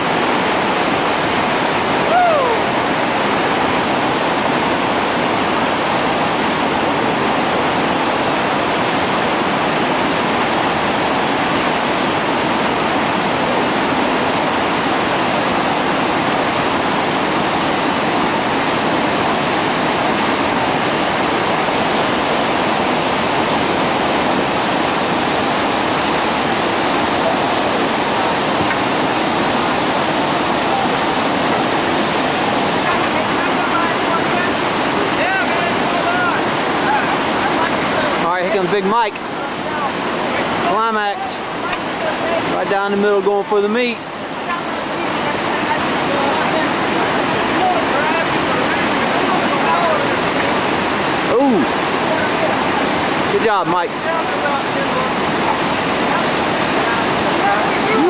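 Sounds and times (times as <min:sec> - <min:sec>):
whitewater rapids rushing: 0:00.0 - 0:58.0.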